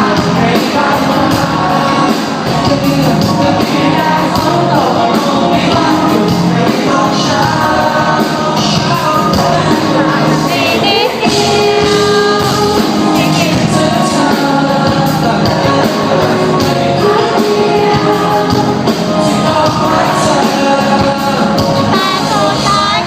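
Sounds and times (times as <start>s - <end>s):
lead vocal singing: 0.0s - 23.0s
live band music: 0.0s - 23.0s.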